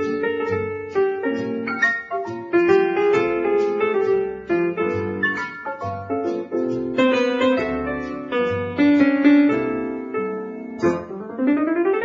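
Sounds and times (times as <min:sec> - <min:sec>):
show tune piano medley: 0:00.0 - 0:12.0.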